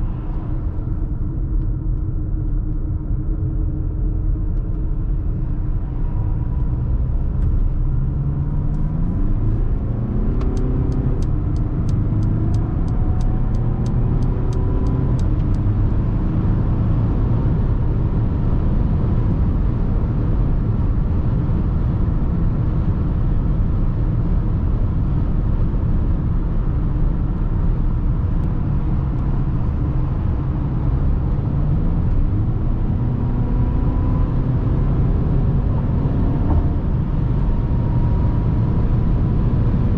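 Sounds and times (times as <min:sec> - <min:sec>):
diesel engine accelerating: 0:00.0 - 0:39.9
road and tyre rumble: 0:00.0 - 0:39.9.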